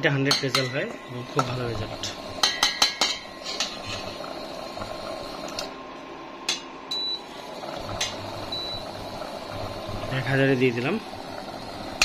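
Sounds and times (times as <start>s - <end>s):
rice boiling in a pot: 0.0s - 6.4s, 7.0s - 12.0s.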